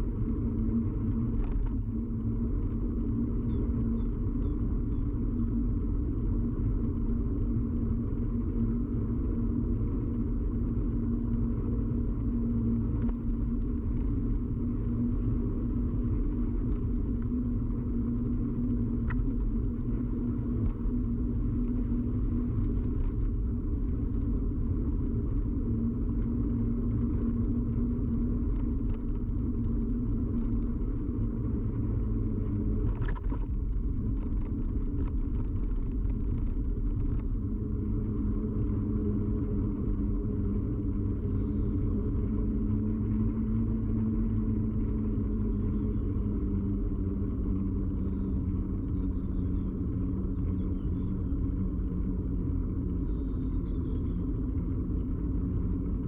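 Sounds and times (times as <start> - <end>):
bicycle rumble: 0.0 - 56.0
faint hum: 0.0 - 56.0.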